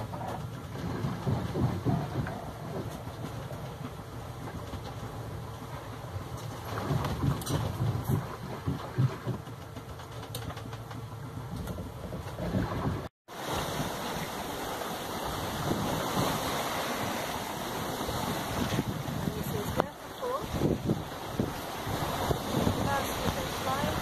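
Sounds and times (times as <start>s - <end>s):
wind on microphone: 0.0s - 4.9s, 6.4s - 9.5s, 11.2s - 24.0s
water rushing against hull: 0.0s - 24.0s.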